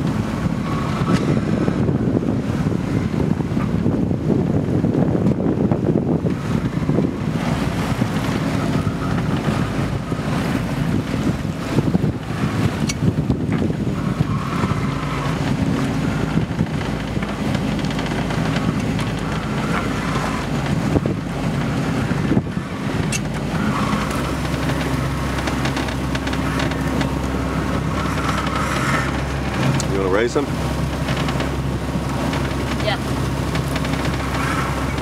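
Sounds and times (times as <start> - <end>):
boat engine running: 0.0 - 35.0
water rushing past hull: 0.0 - 35.0
wind buffeting microphone: 0.0 - 35.0.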